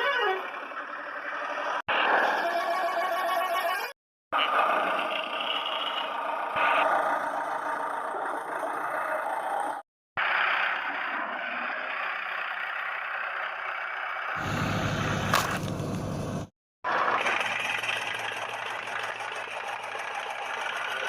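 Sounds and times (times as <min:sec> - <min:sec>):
toy truck motor whirring: 0:00.0 - 0:21.0.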